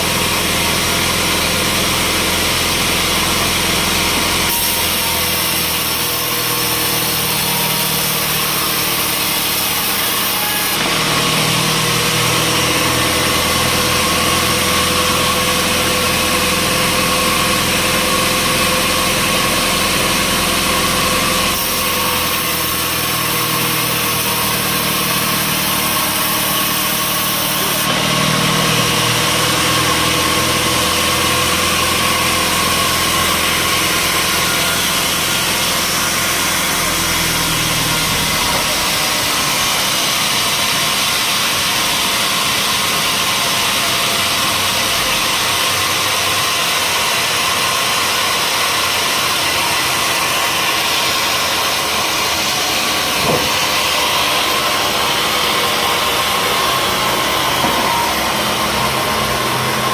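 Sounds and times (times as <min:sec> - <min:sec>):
broad machine noise: 0:00.0 - 0:59.9
saw whining: 0:00.0 - 0:59.9.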